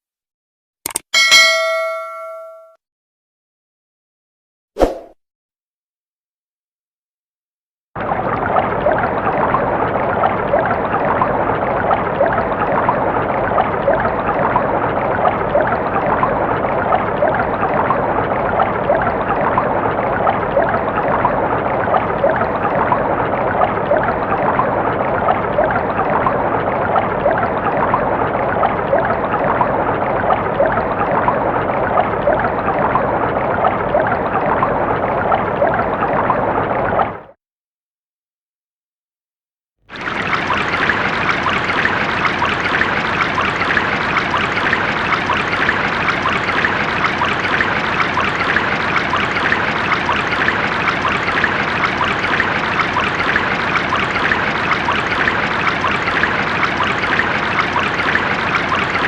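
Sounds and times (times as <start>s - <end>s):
water flowing: 8.0s - 37.3s, 39.9s - 59.0s.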